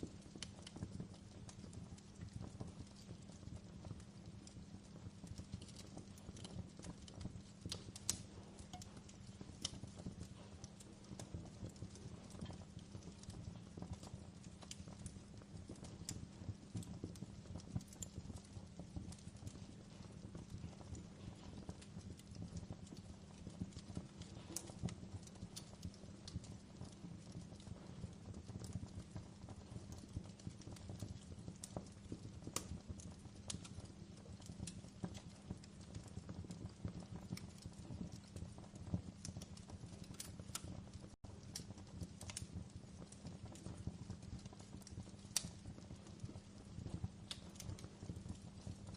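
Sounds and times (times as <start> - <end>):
fire crackling and popping: 0.0 - 48.9
low rumble of flame: 0.0 - 48.9.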